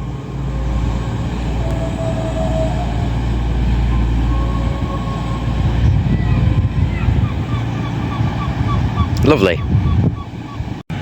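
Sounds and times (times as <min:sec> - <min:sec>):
diesel train engine rumble: 0:00.0 - 0:11.0.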